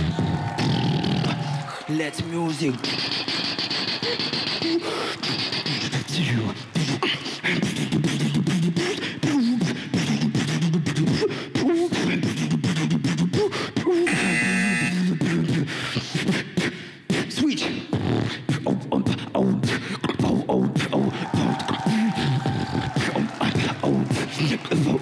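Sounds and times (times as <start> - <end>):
person beatboxing: 0.0 - 14.1, 14.9 - 25.0.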